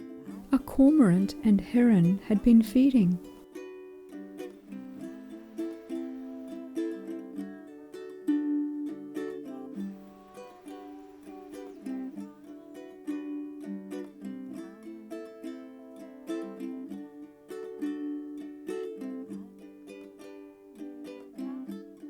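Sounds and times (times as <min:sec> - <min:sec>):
plucked strings melody: 0:00.0 - 0:22.0.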